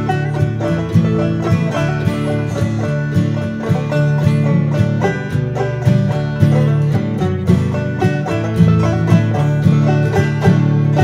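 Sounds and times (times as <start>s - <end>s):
plucked-string bluegrass tune: 0.0s - 11.0s.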